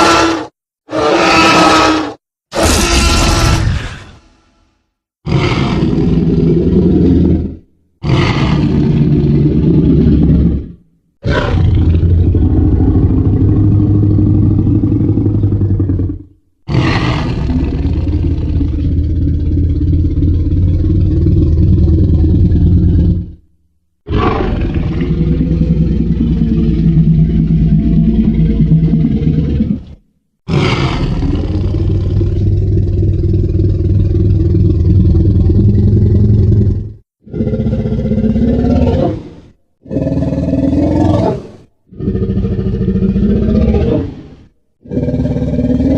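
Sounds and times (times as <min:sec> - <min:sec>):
deep monster roars: 0:05.2 - 0:23.4, 0:24.1 - 0:45.9.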